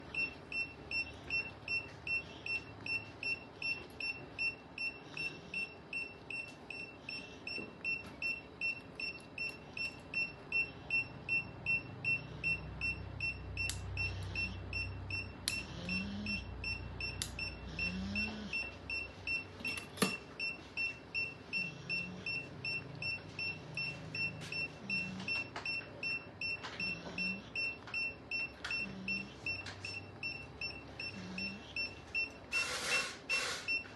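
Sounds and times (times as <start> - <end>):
surgical monitor beeping: 0.0 - 33.9.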